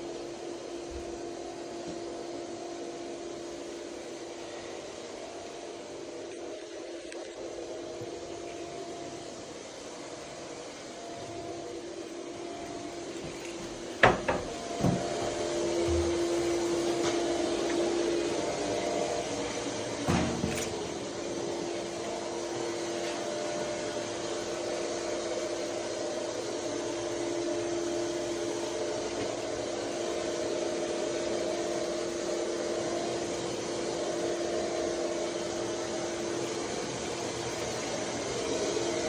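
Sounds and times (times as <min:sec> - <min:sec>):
electric machine humming and whining: 0:00.0 - 0:39.0.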